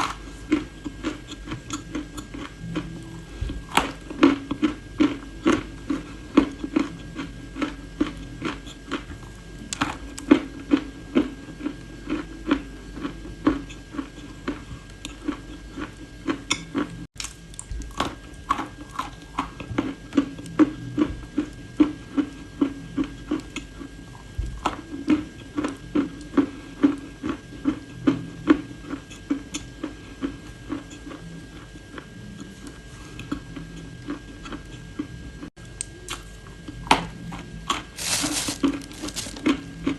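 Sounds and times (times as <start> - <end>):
crunching and chewing clay: 0.0 - 39.9
faint steady hum: 0.0 - 39.9.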